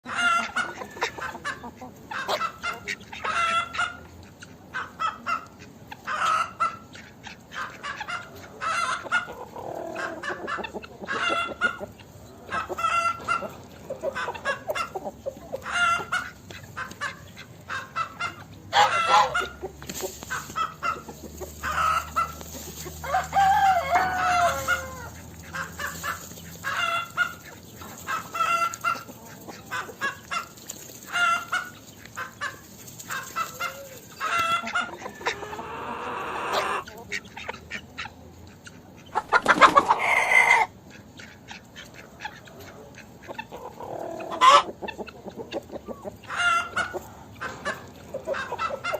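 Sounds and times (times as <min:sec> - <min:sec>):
hens clucking and cackling: 0:00.0 - 0:48.9.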